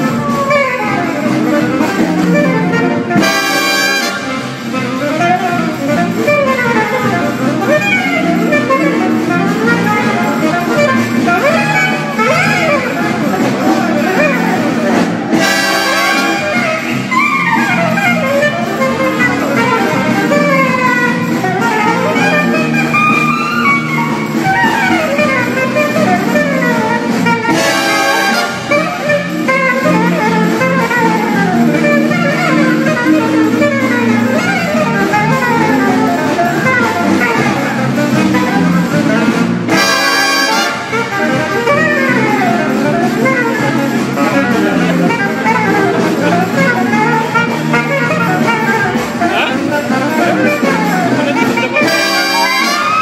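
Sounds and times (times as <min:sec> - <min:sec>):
alto saxophone jazz solo: 0:00.0 - 0:53.0
brass band backing: 0:00.0 - 0:53.0.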